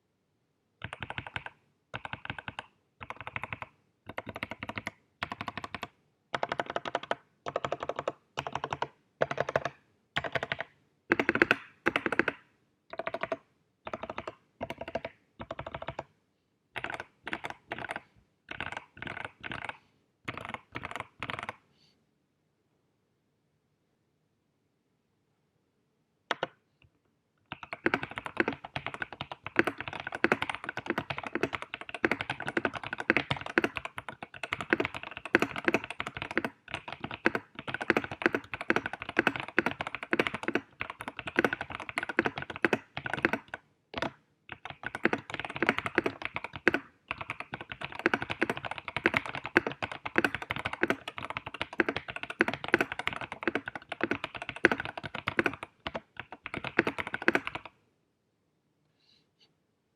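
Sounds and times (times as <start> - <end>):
mechanical keyboard typing: 0.8 - 16.1, 16.8 - 21.6, 26.3 - 26.6, 27.5 - 57.8.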